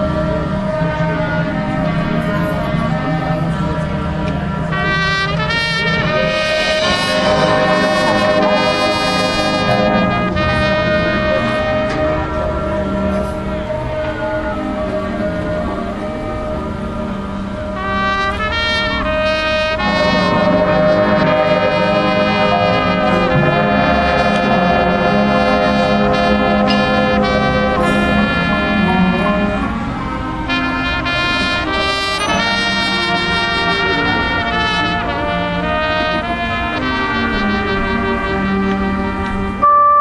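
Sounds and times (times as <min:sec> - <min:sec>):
brass chords: 0:00.0 - 0:40.0
marching band playing: 0:00.0 - 0:40.0.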